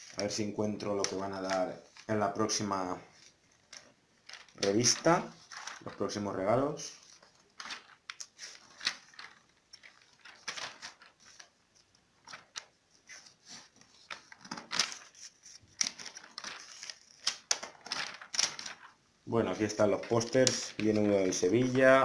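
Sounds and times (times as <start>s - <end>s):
magazine pages flipping: 0.0s - 22.0s.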